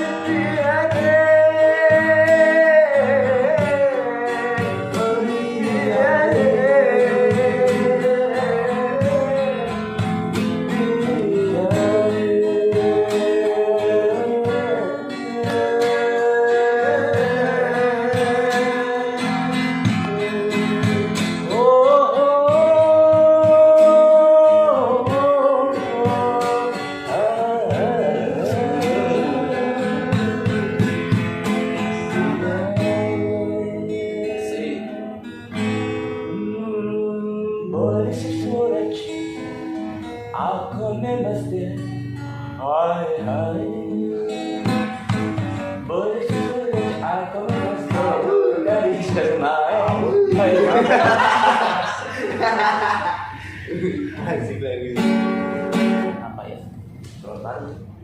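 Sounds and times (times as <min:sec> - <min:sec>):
person singing: 0:00.0 - 0:31.1, 0:31.8 - 0:35.0, 0:36.3 - 0:39.6, 0:42.6 - 0:55.9
acoustic guitar: 0:00.0 - 0:58.0.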